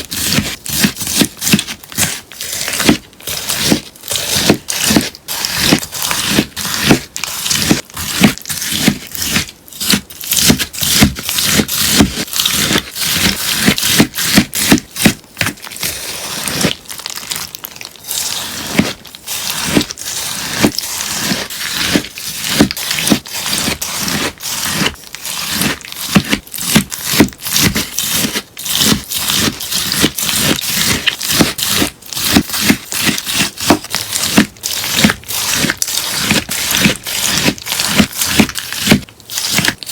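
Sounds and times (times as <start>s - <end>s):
crunchy sponge cutting: 0.0s - 39.9s.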